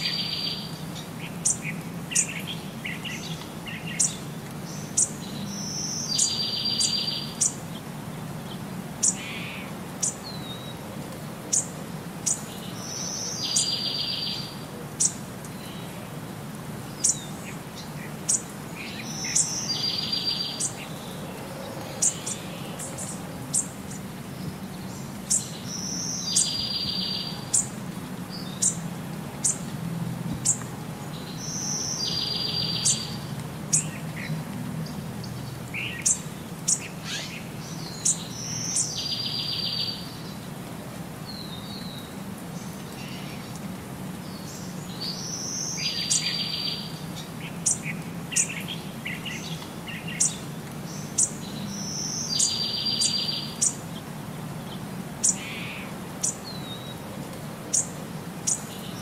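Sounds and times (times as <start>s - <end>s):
birds chirping: 0.0s - 10.8s, 11.5s - 16.0s, 16.8s - 29.7s, 30.4s - 40.5s, 41.3s - 57.1s, 57.7s - 59.0s.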